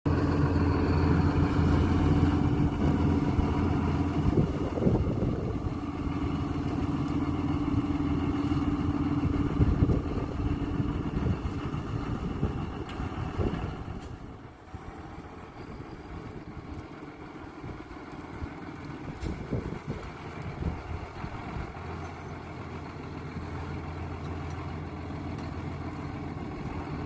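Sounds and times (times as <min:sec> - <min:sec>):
tractor engine running: 0:00.1 - 0:27.0.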